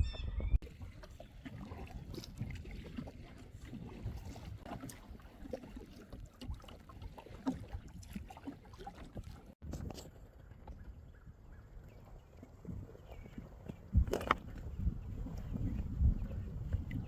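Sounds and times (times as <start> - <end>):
paddle splashing through water: 0.6 - 17.0.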